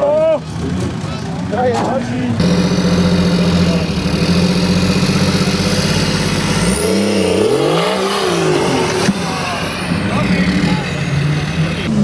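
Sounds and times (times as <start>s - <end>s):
off-road vehicle engine labouring: 0.0s - 12.0s.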